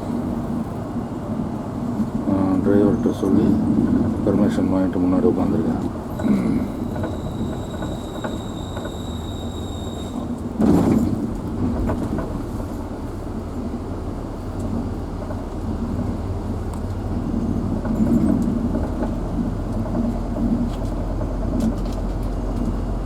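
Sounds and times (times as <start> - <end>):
vehicle rumble from inside cabin: 0.0 - 23.0.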